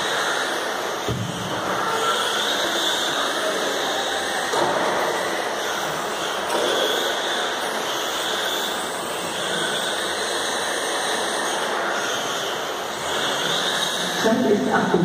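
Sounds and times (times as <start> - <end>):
high electric motor whine: 0.0 - 15.0.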